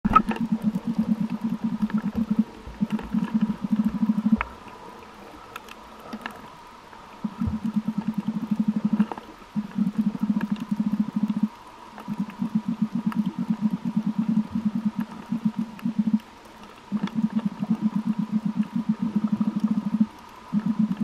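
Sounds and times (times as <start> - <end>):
faint sharp clicks: 0.1 - 21.0.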